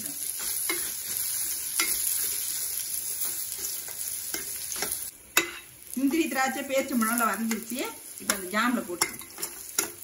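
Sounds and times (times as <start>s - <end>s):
nuts sizzling in a pan: 0.0s - 10.0s
metal spoon scraping a pan: 0.2s - 5.7s, 6.8s - 10.0s.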